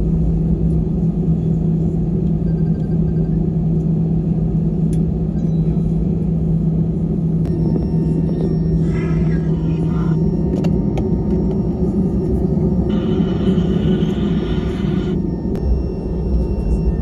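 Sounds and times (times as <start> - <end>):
airliner cabin rumble while taxiing: 0.0 - 17.0.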